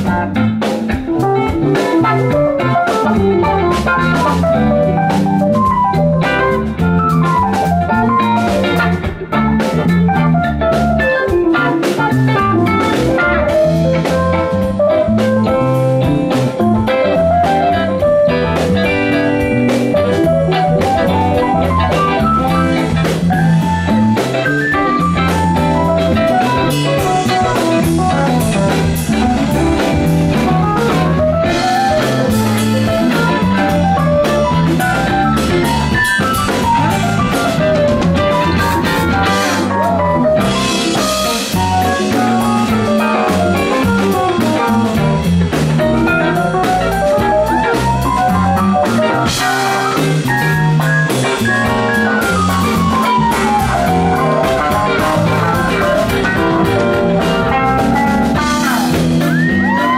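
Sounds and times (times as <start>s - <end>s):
lead guitar melody: 0.0s - 59.9s
rock band playing: 0.0s - 59.9s.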